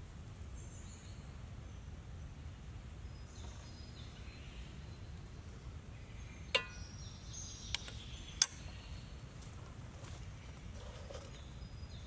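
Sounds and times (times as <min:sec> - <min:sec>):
birds chirping: 0:00.5 - 0:12.0.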